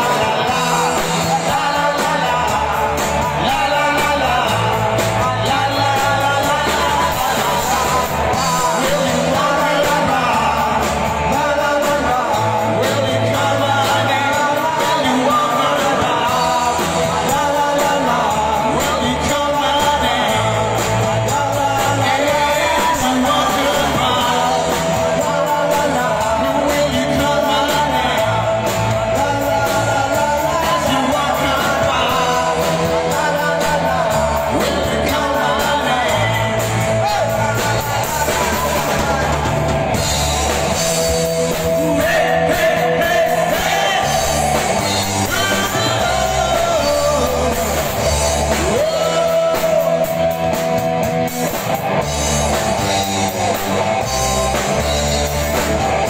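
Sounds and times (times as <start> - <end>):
drum kit: 0.0 - 56.0
electric guitars: 0.0 - 56.0
man singing: 0.0 - 56.0.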